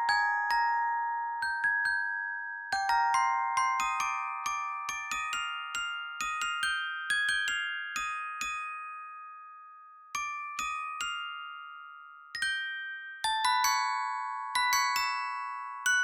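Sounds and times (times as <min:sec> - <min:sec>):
bell-like melody: 0:00.0 - 0:16.0.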